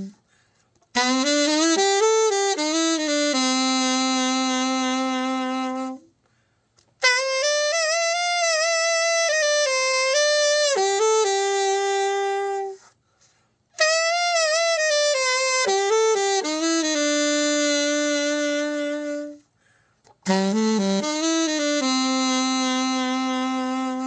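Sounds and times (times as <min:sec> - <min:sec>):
alto saxophone melody: 0:00.0 - 0:00.2, 0:00.8 - 0:06.2, 0:07.0 - 0:13.0, 0:13.7 - 0:19.5, 0:20.1 - 0:24.0.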